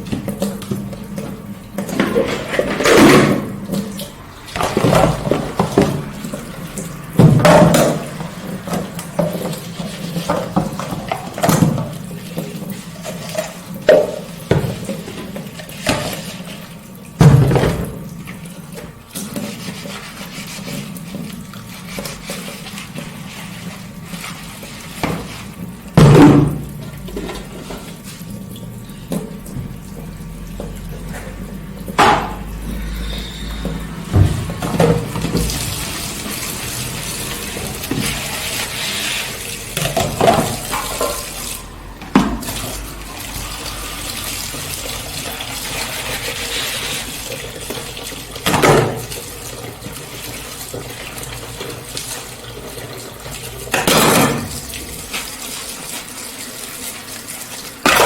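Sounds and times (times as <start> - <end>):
tap running into a sink: 0.0 - 56.8
water splashing: 0.0 - 58.0.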